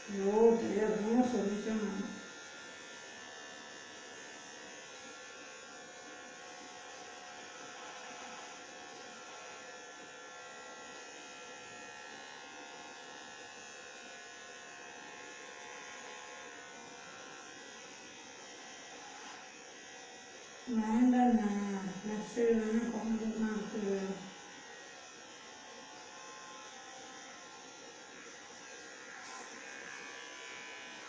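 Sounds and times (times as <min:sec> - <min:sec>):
electric hair clippers buzzing: 0:00.0 - 0:31.0.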